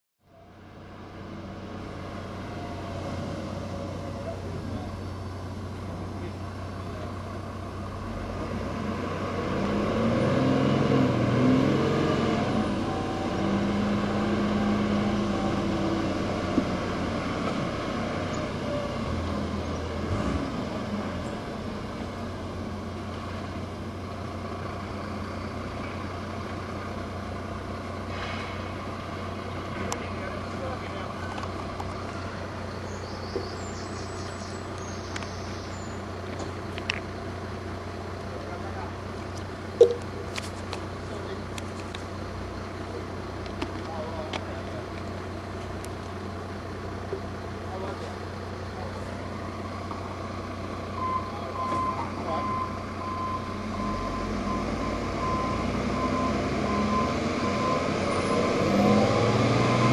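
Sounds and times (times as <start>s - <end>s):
heavy diesel machinery rumble: 0.3s - 59.9s
dump truck engine passing: 0.4s - 59.9s.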